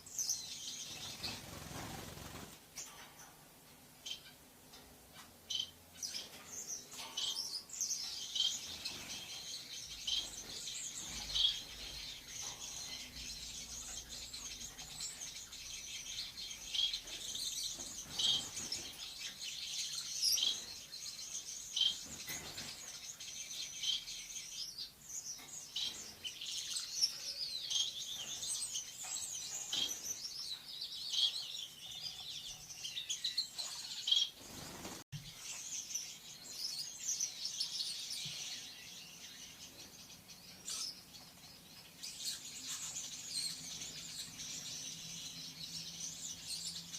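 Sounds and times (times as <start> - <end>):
lovebirds chattering: 5.1 - 46.9.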